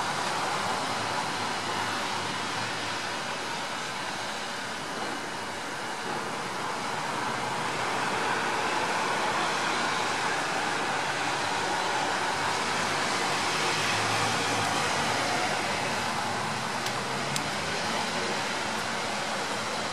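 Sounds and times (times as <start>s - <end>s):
traffic hiss: 0.0s - 19.9s.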